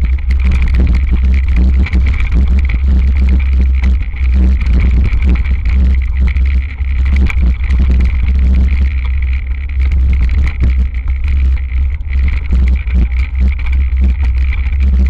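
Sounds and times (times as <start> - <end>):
mountain bike rattling: 0.0 - 14.9
wind rumbling on microphone: 0.0 - 15.0.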